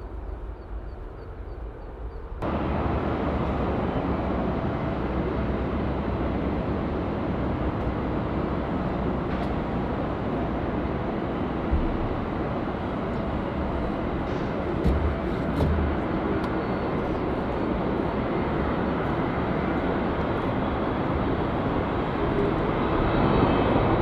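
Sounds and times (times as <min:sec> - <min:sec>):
distant jet engines rumbling: 0:00.0 - 0:24.0.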